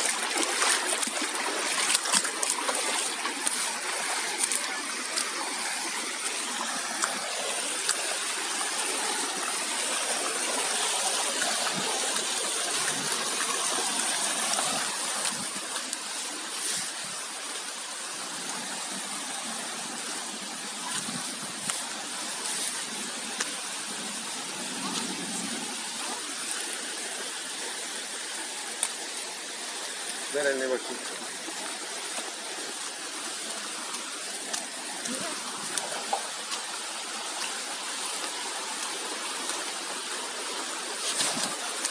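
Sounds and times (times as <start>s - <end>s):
water rushing over rocks: 0.0s - 41.9s.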